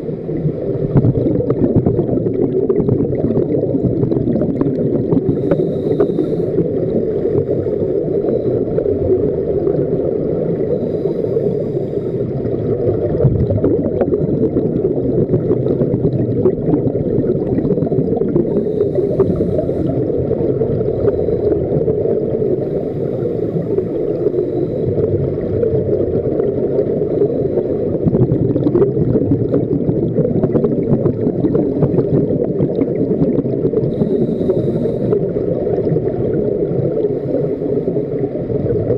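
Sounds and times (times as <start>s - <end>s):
underwater bubbling of exhaled air: 0.0s - 38.9s.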